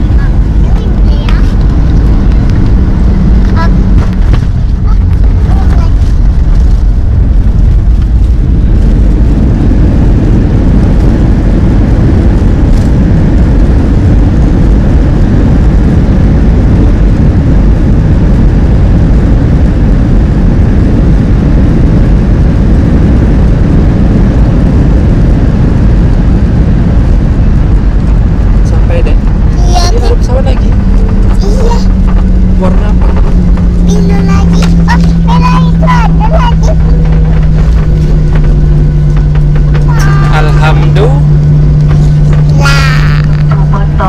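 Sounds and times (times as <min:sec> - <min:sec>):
airliner cabin noise: 0:00.0 - 0:44.0.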